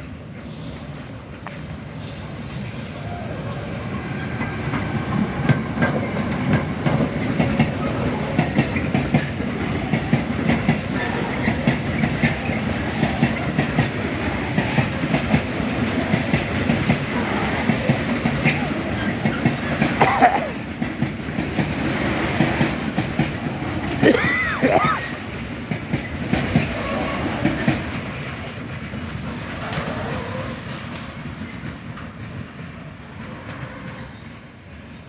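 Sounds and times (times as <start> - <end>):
freight train rolling past: 0.0 - 35.0
wheels clacking over rail joints: 3.1 - 34.2.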